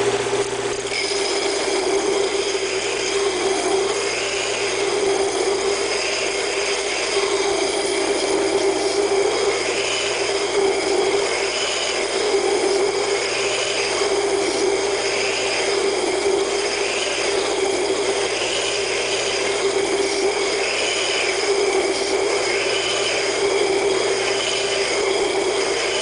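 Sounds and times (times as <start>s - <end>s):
belt grinder machine hum: 0.0s - 26.0s
blade grinding hiss: 0.7s - 26.0s.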